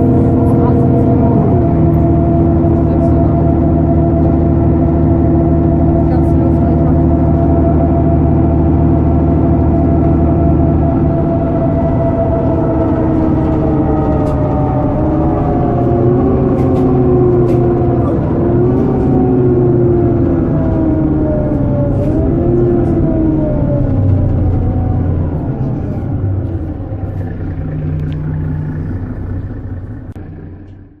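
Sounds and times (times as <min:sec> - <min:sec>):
bus engine running: 0:00.0 - 0:31.0.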